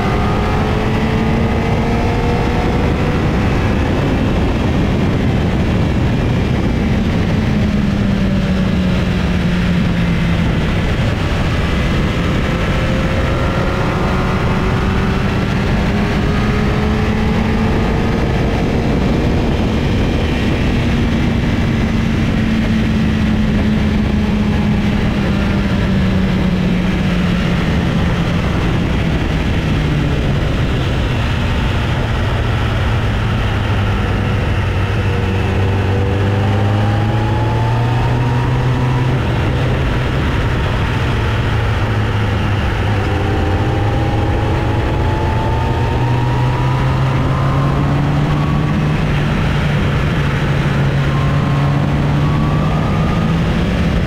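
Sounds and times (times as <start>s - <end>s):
engine running: 0.0s - 54.0s
low rumble and rush: 0.0s - 54.0s.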